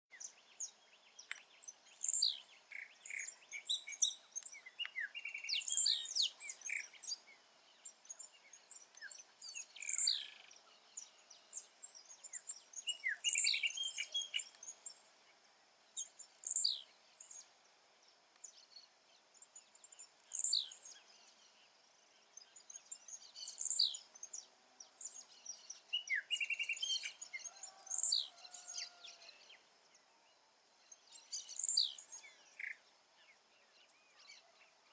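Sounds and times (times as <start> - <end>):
bird singing short high song: 0.1 - 15.0, 16.0 - 17.5, 18.3 - 21.7, 22.3 - 34.9
soft bird chirps: 0.1 - 34.9.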